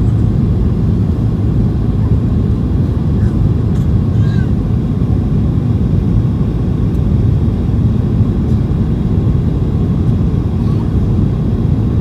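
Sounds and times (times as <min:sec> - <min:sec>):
airplane cabin low rumble: 0:00.0 - 0:12.0.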